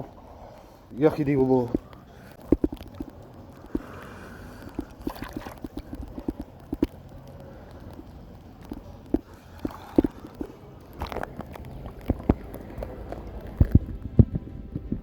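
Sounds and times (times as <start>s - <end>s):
pool water splashing and dripping: 0.0s - 14.5s
light steady water wash: 0.0s - 15.0s.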